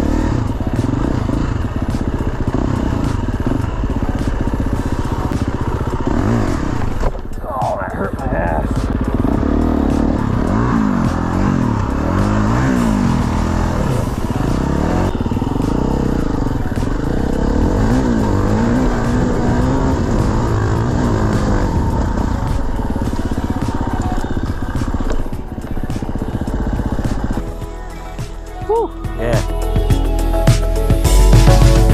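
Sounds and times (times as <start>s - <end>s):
dirt bike engine revving: 0.0s - 28.6s.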